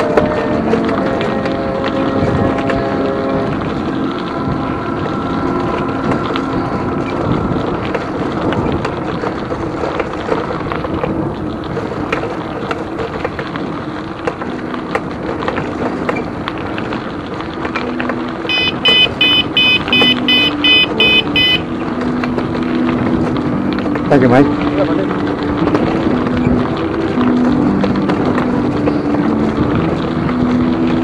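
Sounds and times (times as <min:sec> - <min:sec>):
bike tyre noise: 0:00.0 - 0:31.0
wind: 0:00.0 - 0:31.0.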